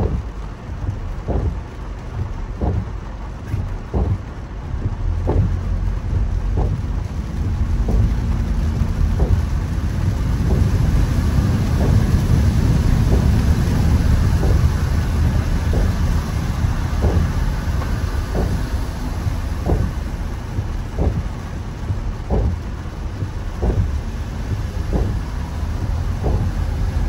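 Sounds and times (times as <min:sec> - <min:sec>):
heavy rain on car: 0:00.0 - 0:27.0
tyres rumbling on wet road: 0:00.0 - 0:27.0
windscreen wipers swishing: 0:00.0 - 0:27.0.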